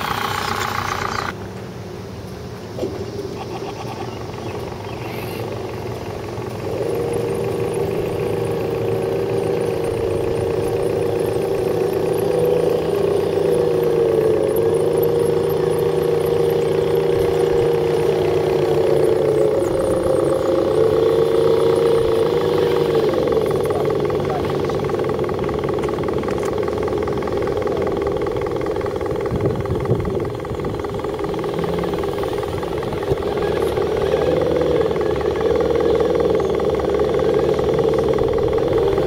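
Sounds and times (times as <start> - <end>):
toy truck electric motors whining: 0.0 - 1.4, 3.4 - 39.0.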